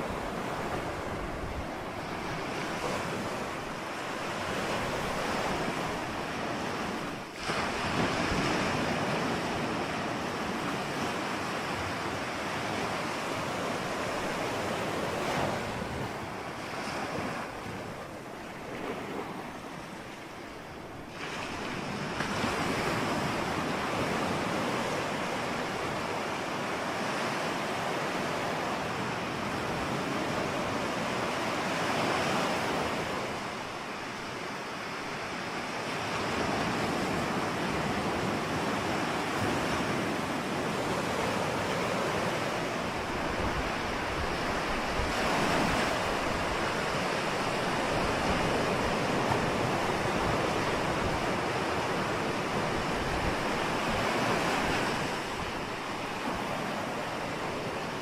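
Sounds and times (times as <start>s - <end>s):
ocean waves breaking: 0.0s - 58.0s
wind: 0.0s - 58.0s.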